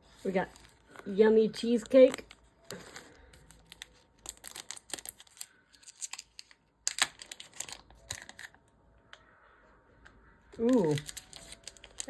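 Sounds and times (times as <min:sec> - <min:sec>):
package rustling and crinkling: 0:00.0 - 0:08.7, 0:10.5 - 0:12.0.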